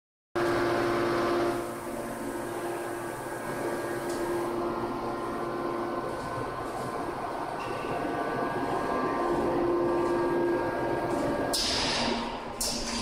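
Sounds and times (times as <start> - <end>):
hydraulic forging press humming: 0.4 - 13.0.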